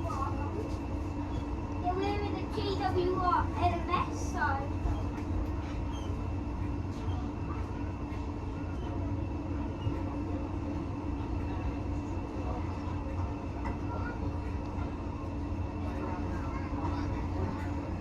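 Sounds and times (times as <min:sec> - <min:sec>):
railway carriage rumble: 0:00.0 - 0:18.0.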